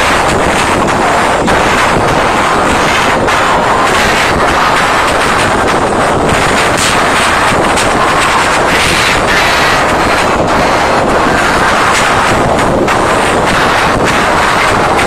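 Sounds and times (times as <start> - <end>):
concert crowd screaming: 0.0 - 15.0.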